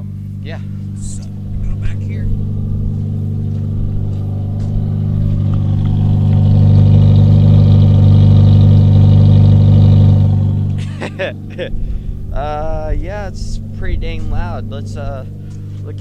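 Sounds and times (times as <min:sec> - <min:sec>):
car exhaust drone inside cabin: 0:00.0 - 0:16.0.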